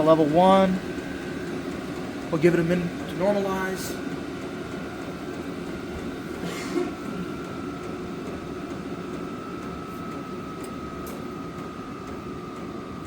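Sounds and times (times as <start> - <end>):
air heater blower running: 0.0 - 13.0.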